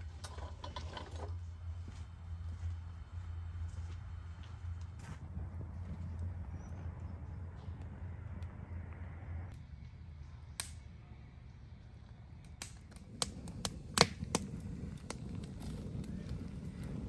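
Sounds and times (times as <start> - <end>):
wood fire crackling and popping: 0.0 - 9.6, 10.6 - 10.8, 12.4 - 17.0
low steady rumble: 0.0 - 17.0.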